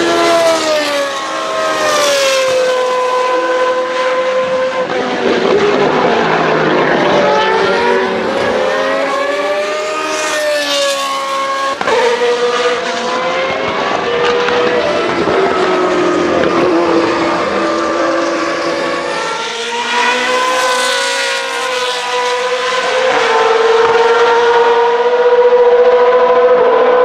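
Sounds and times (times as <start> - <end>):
racing car engine at high revs: 0.0 - 27.0.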